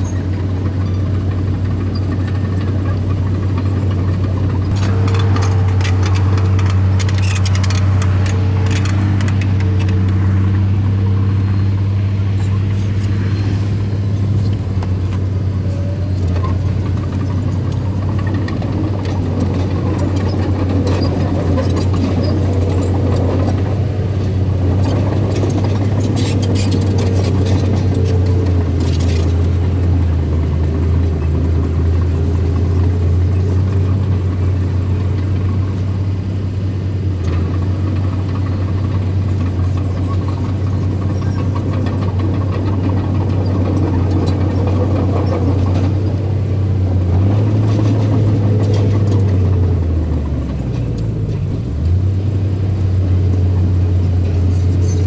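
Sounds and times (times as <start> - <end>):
earthmoving machinery diesel engines: 0.0 - 55.0.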